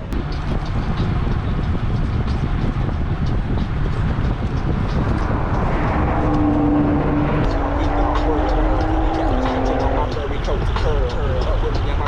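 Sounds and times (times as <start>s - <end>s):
wind buffeting microphone: 0.0s - 12.0s
steady hum: 0.2s - 10.0s.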